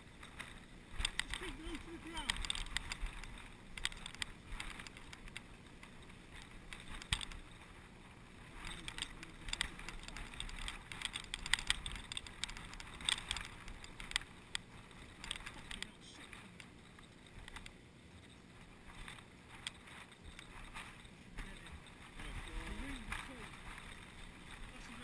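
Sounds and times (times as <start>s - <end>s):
grass rustling on microphone: 0.0s - 25.0s.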